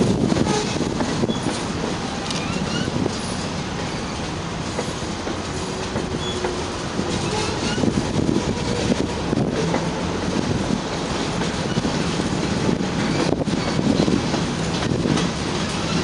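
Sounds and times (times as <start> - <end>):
clickety-clack over rail joints: 0.0 - 16.0
train wheels rumbling on rails: 0.0 - 16.0.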